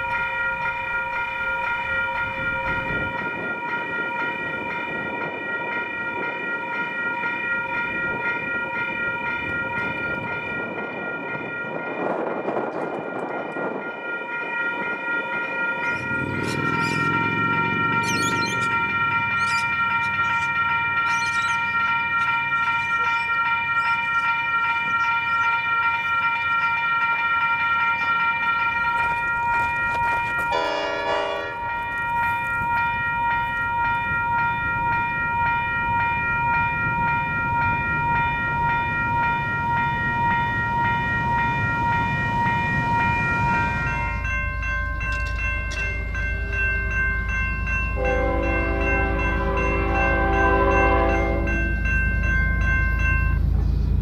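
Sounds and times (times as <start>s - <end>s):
level crossing bells ringing: 0.0s - 53.6s.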